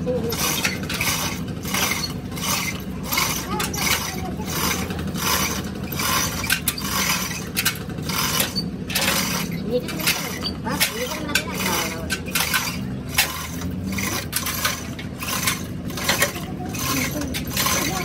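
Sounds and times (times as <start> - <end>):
hand tool scraping hard surface: 0.0 - 18.0
low machine hum: 0.0 - 18.0.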